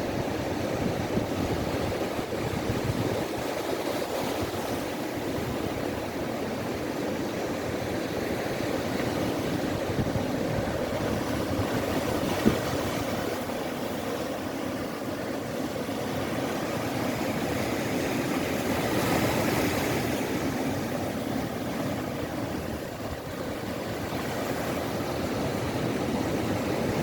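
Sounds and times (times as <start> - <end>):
sea waves breaking on a beach: 0.0 - 27.0.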